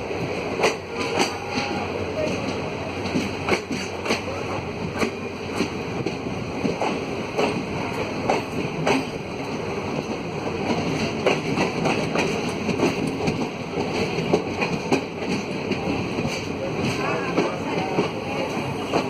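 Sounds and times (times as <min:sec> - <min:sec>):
freight train rumbling: 0:00.0 - 0:19.0
wagon wheels clacking over rail joints: 0:00.6 - 0:18.2.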